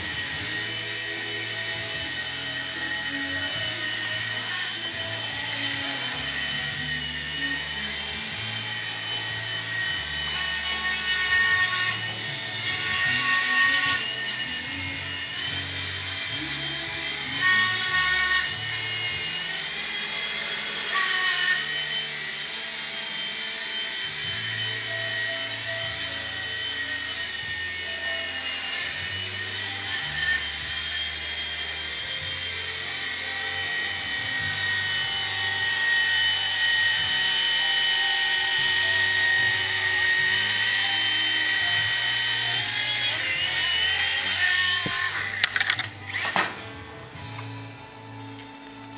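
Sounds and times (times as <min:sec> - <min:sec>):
micro helicopter motor whine: 0:00.0 - 0:46.4.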